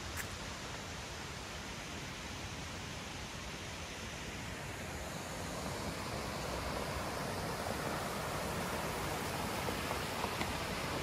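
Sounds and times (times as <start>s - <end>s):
stream and waterfall rushing: 0.0s - 11.0s.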